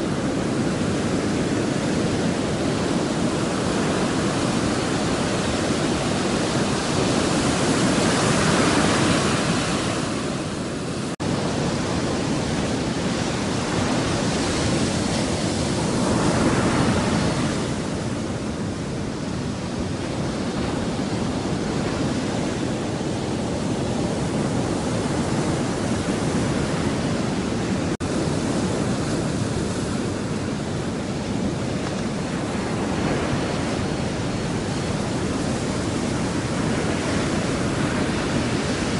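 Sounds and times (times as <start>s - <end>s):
surf waves roaring on beach: 0.0s - 38.9s.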